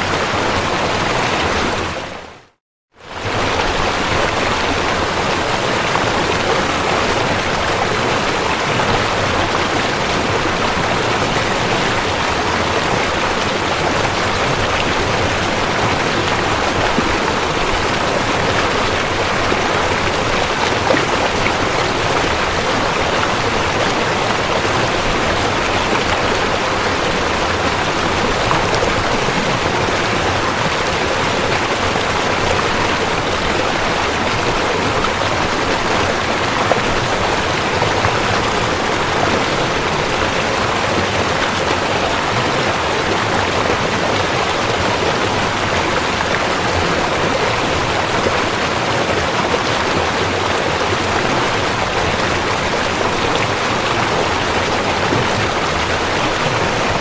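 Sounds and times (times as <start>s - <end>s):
river water rushing: 0.0s - 2.3s, 3.0s - 57.0s.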